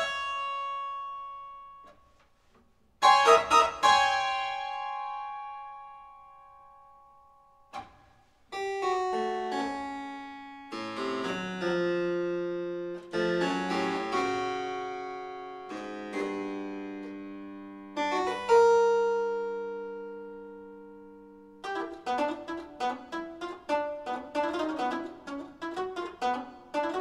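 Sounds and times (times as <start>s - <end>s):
solo harpsichord playing: 0.0s - 1.8s, 3.0s - 27.0s.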